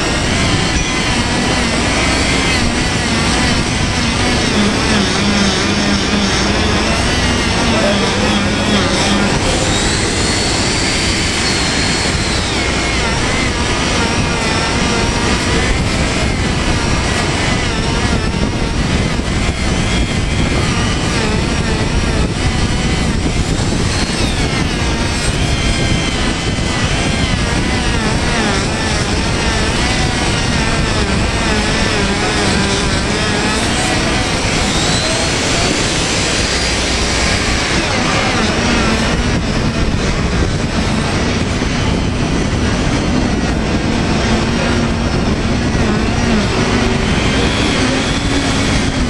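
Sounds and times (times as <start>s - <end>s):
electric grinder motor whine: 0.0s - 49.0s
loud steady noise: 0.0s - 49.0s.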